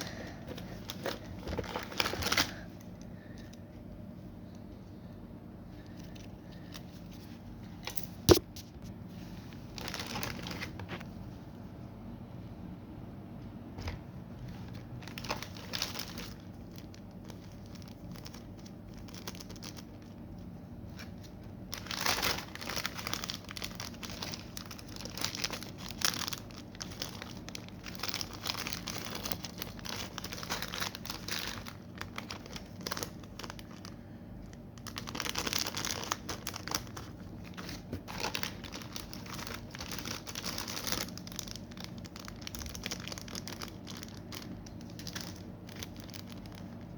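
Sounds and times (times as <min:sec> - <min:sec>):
packaging crinkling and rustling: 0:00.0 - 0:03.6, 0:05.8 - 0:11.2, 0:14.5 - 0:46.9.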